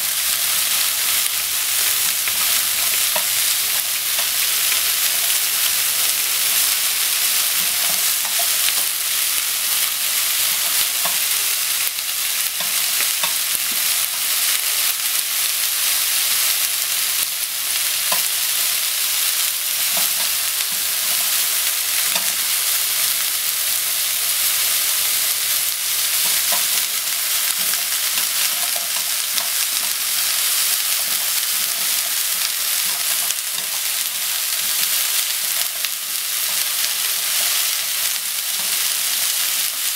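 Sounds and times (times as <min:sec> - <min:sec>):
cabbage sizzling in frying pan: 0:00.0 - 0:39.9.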